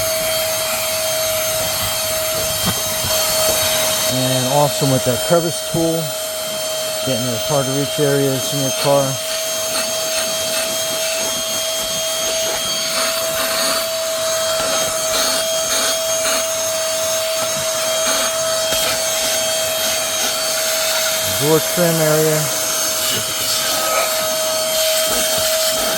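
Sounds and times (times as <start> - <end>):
handheld vacuum motor whine: 0.0 - 25.9
vacuum tool scraping surfaces: 0.1 - 25.9.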